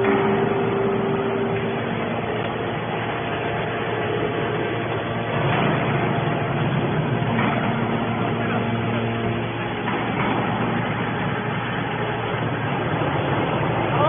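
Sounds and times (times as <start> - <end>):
hydraulic baler machinery drone: 0.0 - 14.0.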